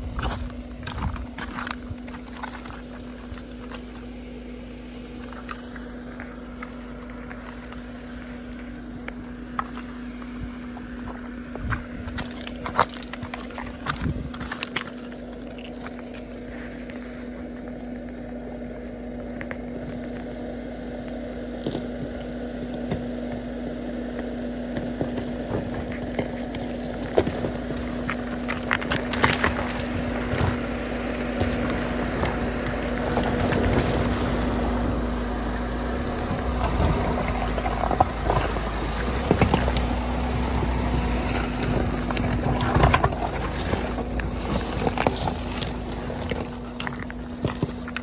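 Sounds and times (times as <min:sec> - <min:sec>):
diesel engine humming: 0:00.0 - 0:48.0
tyres crunching over stones: 0:00.0 - 0:48.0.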